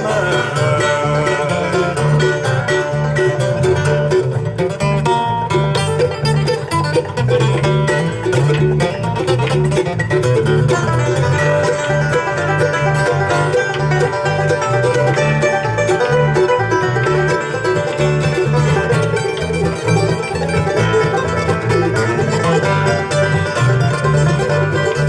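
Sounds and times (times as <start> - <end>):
picked string notes: 0.0 - 25.0
pulsing bass line: 0.0 - 25.0.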